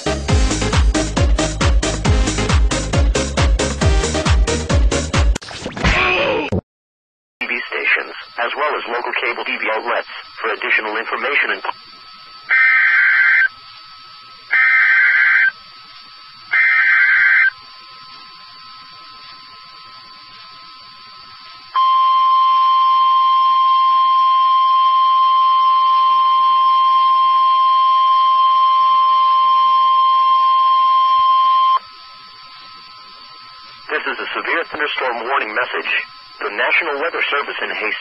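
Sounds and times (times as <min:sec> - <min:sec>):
shrill data tone bursts: 0:07.4 - 0:38.0.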